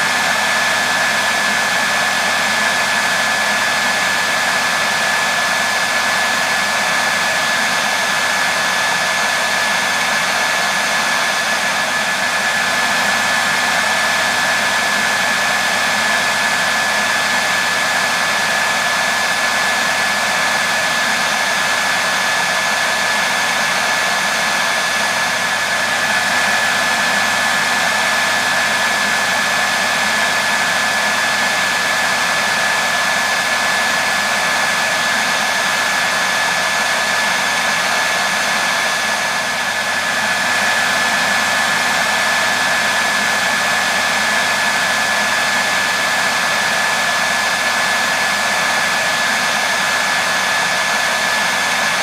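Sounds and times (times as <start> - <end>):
hair dryer blowing: 0.0 - 52.0.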